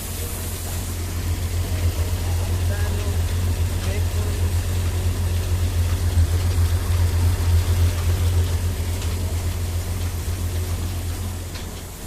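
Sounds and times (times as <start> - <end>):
engine running with low pulsing: 0.0 - 12.0.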